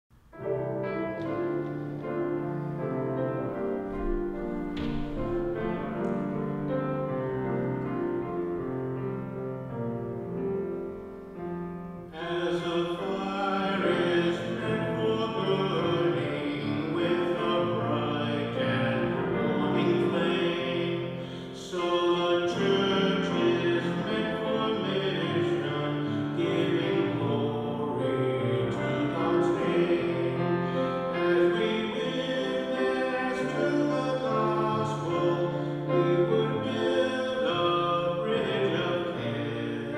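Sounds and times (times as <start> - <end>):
church music with held chords: 0.1 - 39.9.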